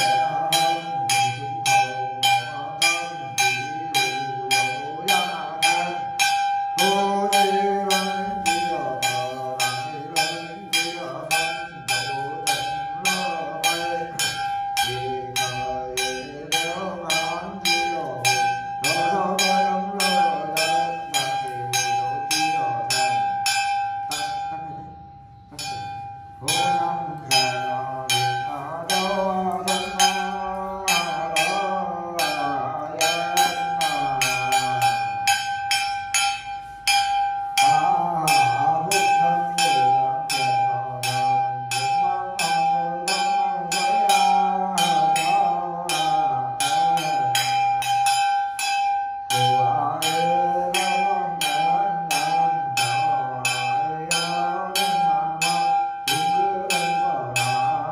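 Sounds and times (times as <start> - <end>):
man chanting a prayer: 0.0 - 48.2, 49.3 - 57.9
small bell ringing rhythmically: 0.0 - 57.9.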